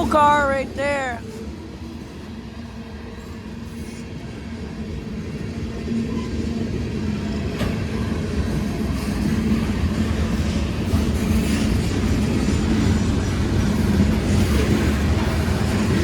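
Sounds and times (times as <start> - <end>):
steel wheels rumbling on rail: 0.0 - 16.0.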